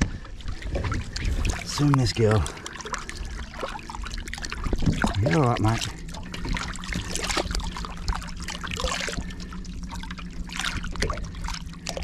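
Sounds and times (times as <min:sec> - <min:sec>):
steady low hum: 0:00.0 - 0:12.0
water splashing and trickling: 0:00.0 - 0:12.0.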